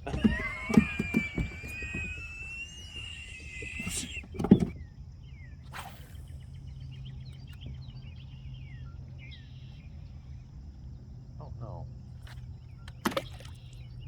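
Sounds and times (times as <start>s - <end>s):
steady low hum: 0.0s - 12.9s
small birds chirping: 0.0s - 14.0s.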